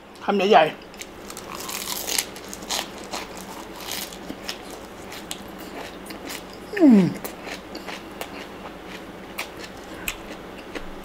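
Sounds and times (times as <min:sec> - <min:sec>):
chewing crunchy leafy greens: 0:01.0 - 0:10.9.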